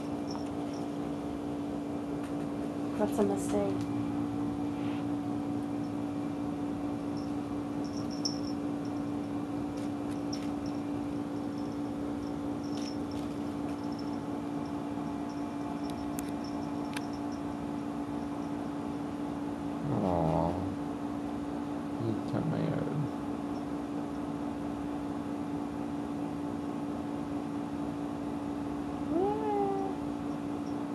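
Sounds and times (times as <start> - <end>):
low mechanical hum: 0.0 - 30.9.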